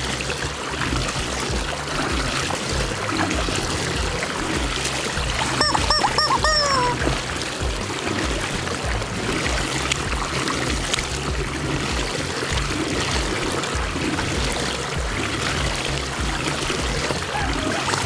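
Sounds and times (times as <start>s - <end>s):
small water splashes: 0.0s - 18.0s
water rushing down drain: 0.0s - 18.0s.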